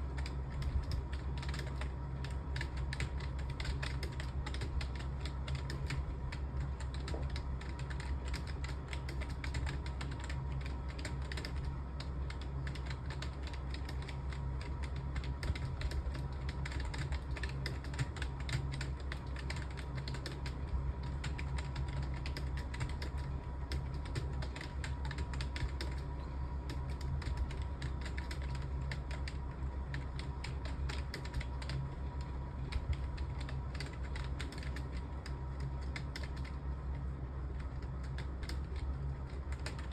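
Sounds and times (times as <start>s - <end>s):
fast typing on keyboard: 0.0s - 39.9s
steady low hum: 0.0s - 39.9s.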